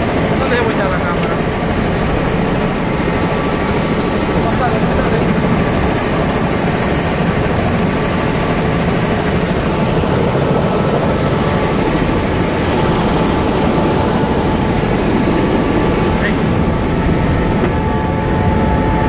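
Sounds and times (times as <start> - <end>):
helicopter engine and rotor drone: 0.0 - 19.0
high whine: 0.0 - 19.0.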